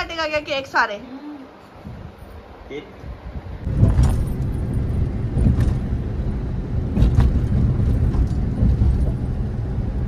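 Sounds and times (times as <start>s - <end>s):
engine and road noise rumble: 1.5s - 10.0s.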